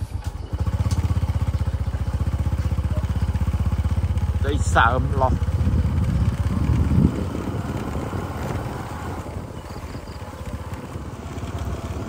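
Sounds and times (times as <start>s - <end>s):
engine pulsing drone: 0.0s - 12.0s.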